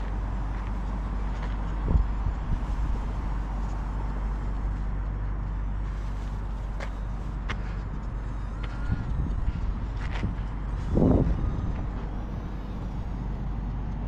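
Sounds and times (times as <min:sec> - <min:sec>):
wind buffeting microphone: 0:00.0 - 0:04.8, 0:06.1 - 0:14.0.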